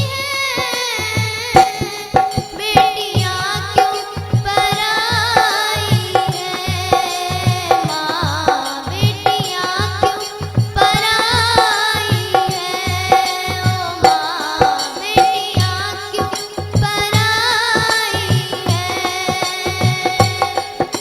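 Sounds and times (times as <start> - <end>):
girl singing folk song: 0.0 - 21.0
hand drum beat: 0.0 - 21.0.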